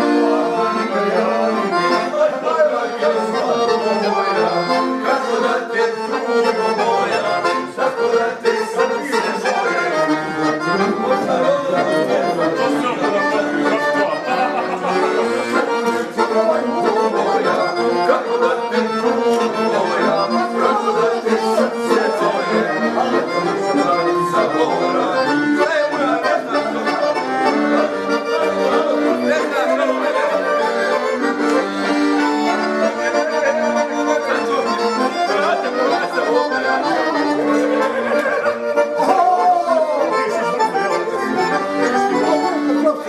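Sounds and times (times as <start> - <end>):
piano accordion playing: 0.0 - 43.0.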